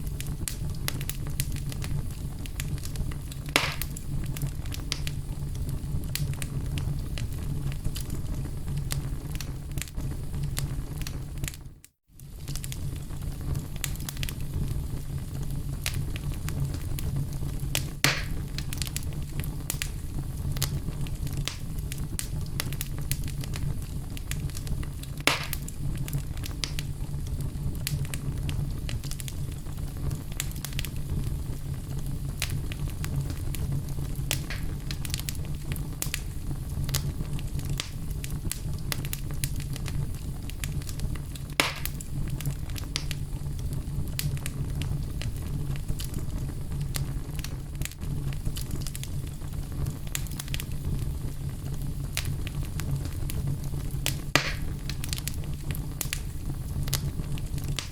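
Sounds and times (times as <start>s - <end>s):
fireplace fire crackling: 0.0s - 57.9s
loud fire pops: 0.0s - 57.9s.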